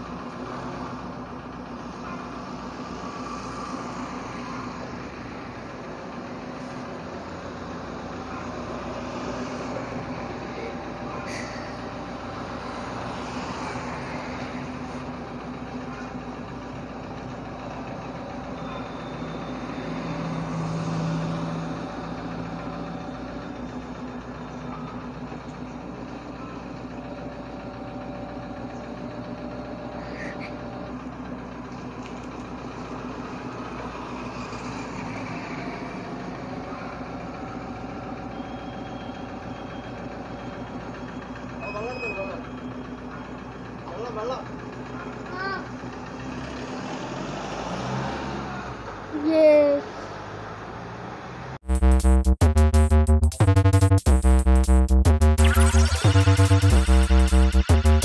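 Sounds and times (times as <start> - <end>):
minivan engine running at low revs: 0.0 - 49.8, 50.5 - 58.0.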